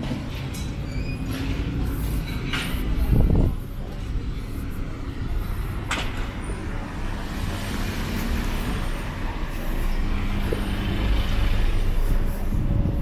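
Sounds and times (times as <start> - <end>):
low traffic rumble: 0.0 - 13.0
car engine approaching: 1.4 - 13.0.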